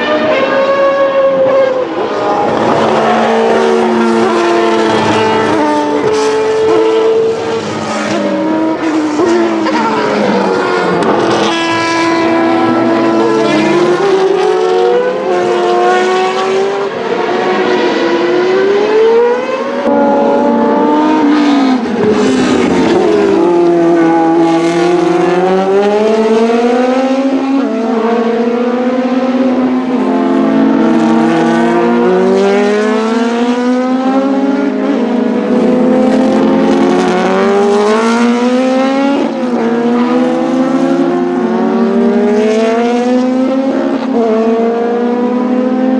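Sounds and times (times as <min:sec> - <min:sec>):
racing car engines passing: 0:00.0 - 0:45.9.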